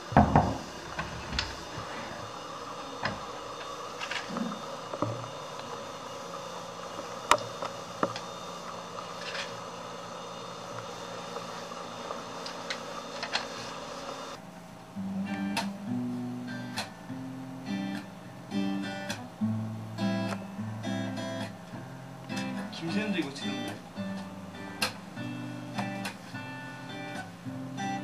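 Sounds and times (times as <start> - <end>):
room hum: 0.0 - 28.0.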